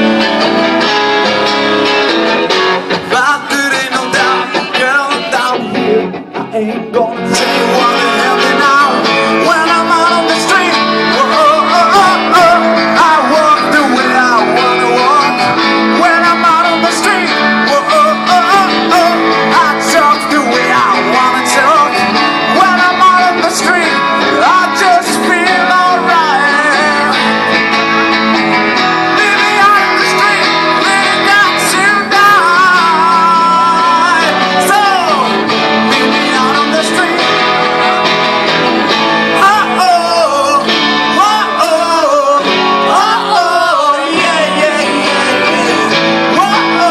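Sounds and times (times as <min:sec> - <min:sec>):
acoustic guitars strummed and picked: 0:00.0 - 0:46.9
person singing: 0:02.6 - 0:46.9.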